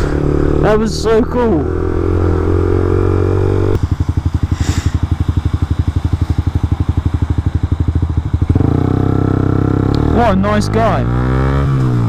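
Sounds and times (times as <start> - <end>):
motorcycle engine idling: 0.1 - 10.0.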